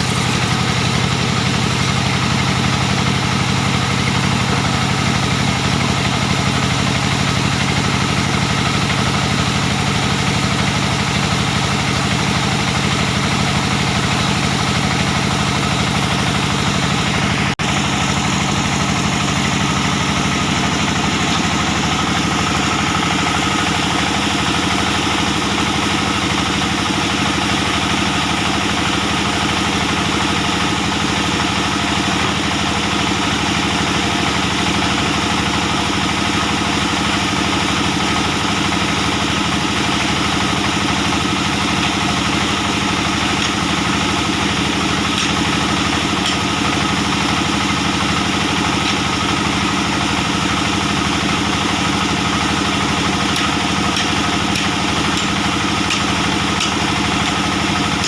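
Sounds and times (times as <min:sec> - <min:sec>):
diesel engine driving a band saw: 0:00.0 - 0:58.0.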